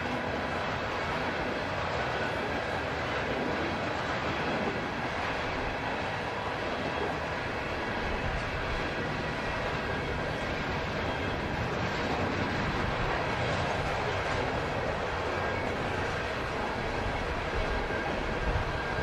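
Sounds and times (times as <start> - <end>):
freight train cars rolling past: 0.0 - 19.0
wind on microphone: 0.0 - 19.0.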